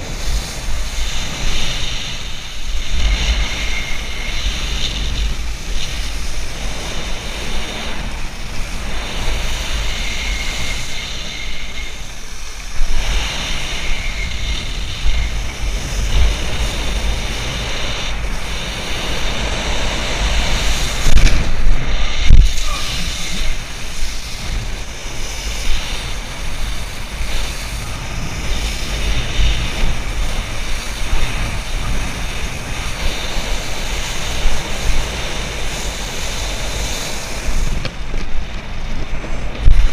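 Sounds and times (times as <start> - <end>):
wakeboard spraying across water: 0.0 - 39.9
wind buffeting microphone: 0.0 - 39.9.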